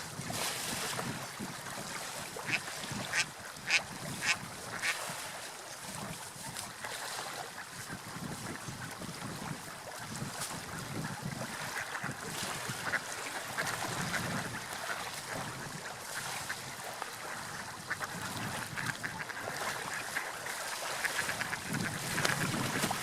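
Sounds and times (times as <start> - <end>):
sea waves washing: 0.0 - 23.0
wind: 0.0 - 23.0.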